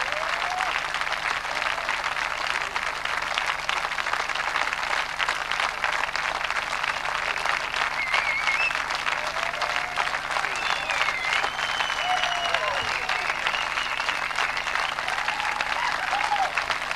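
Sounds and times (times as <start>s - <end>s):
audience applauding: 0.0s - 16.9s.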